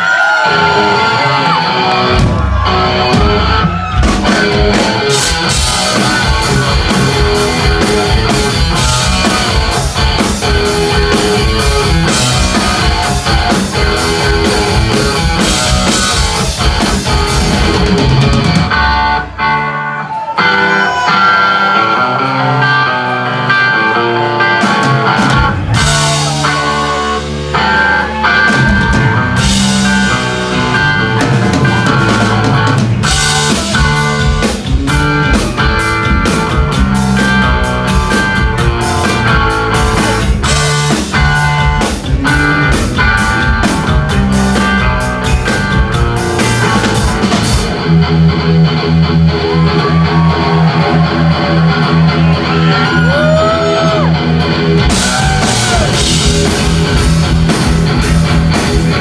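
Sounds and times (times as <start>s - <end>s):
bass guitar: 0.0s - 59.0s
lead electric guitar: 0.3s - 59.0s
drum kit: 1.5s - 20.3s, 21.0s - 59.0s.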